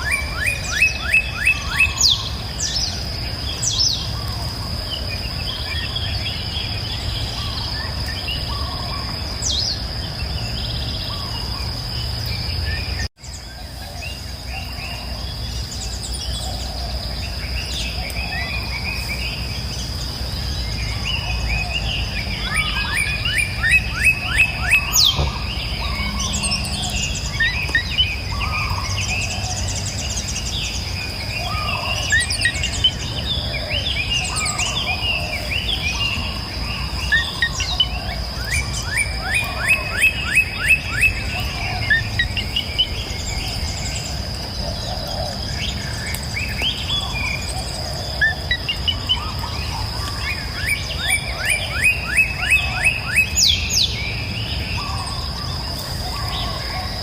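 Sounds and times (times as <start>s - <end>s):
birds chirping and singing: 0.0s - 57.0s
high insect drone: 0.0s - 57.0s.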